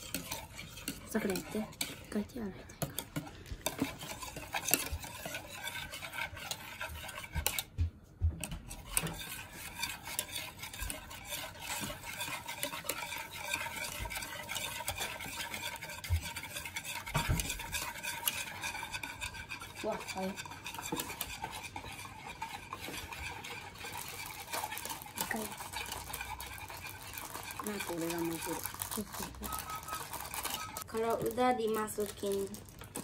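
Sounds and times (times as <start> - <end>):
whisk clattering against bowl: 0.0 - 31.6.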